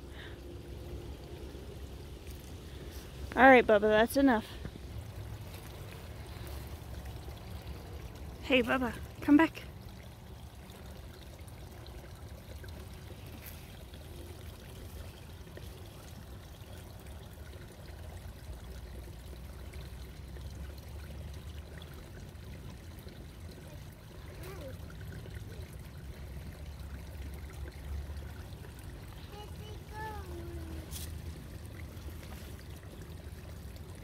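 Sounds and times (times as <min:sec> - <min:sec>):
stream trickling over stones: 0:00.0 - 0:34.0.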